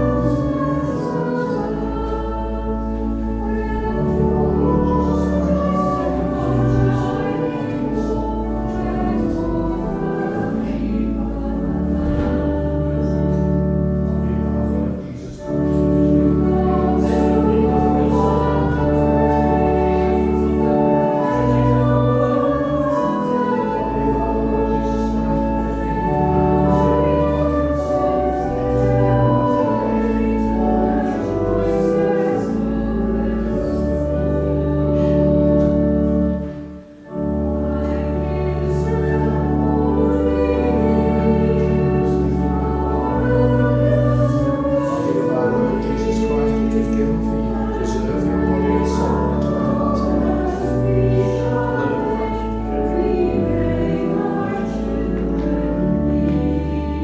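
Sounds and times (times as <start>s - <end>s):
church organ: 0.0s - 57.0s
congregation singing a hymn: 0.0s - 57.0s.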